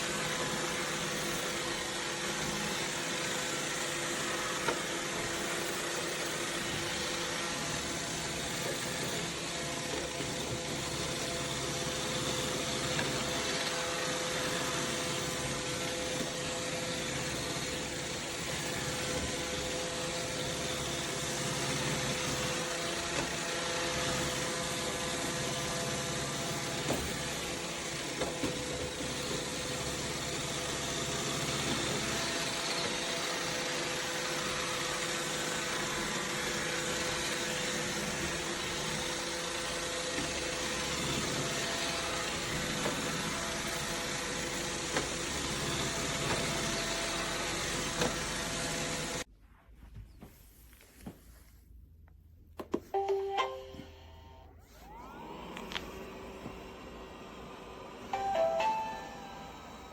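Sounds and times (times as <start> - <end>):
robot vacuum running: 0.0 - 49.3, 53.8 - 59.9.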